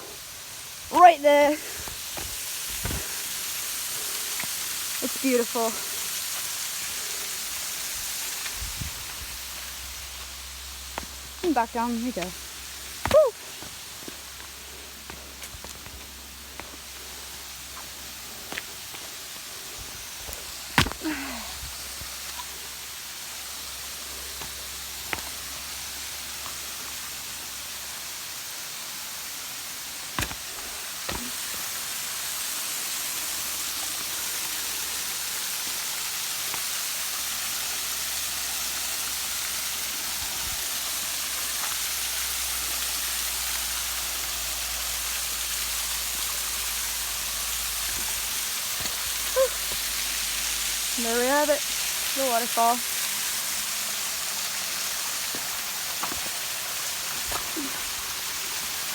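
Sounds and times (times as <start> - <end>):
small waterfall rushing: 0.0 - 58.9.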